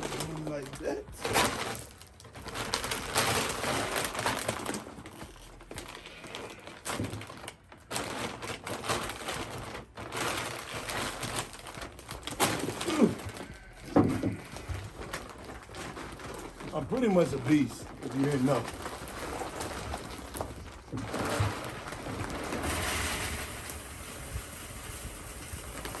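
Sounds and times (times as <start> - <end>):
grain feed pouring: 0.0 - 26.0.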